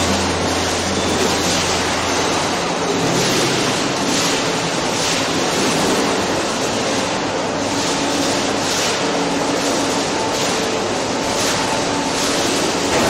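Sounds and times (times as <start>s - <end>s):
tube mill production line running: 0.0s - 13.0s.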